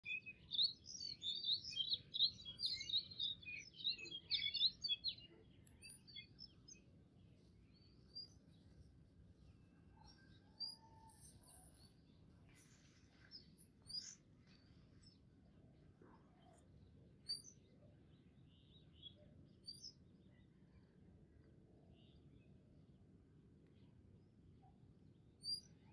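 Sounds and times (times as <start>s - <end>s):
birds chirping: 0.0s - 22.6s.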